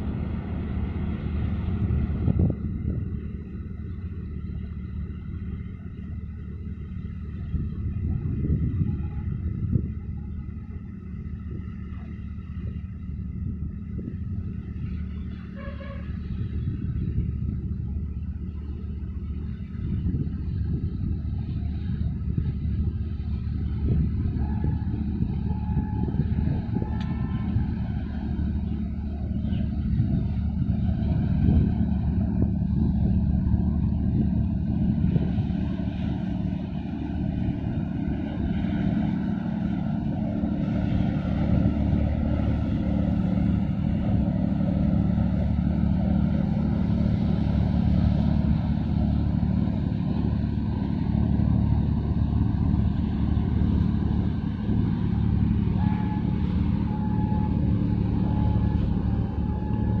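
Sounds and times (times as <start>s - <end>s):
ship diesel engines droning: 0.0s - 60.0s.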